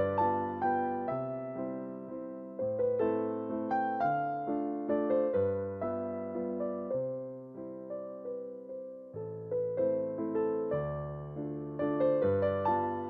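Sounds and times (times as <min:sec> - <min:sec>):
electric piano melody: 0:00.0 - 0:13.0.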